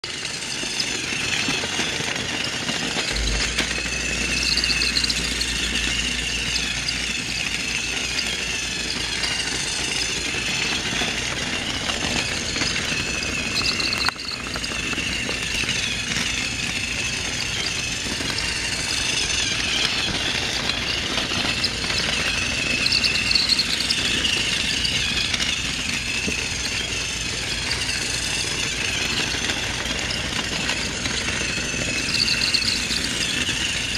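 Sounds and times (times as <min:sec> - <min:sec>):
toy train motor whirring: 0:00.0 - 0:33.9
toy train wheels rattling: 0:00.0 - 0:33.9.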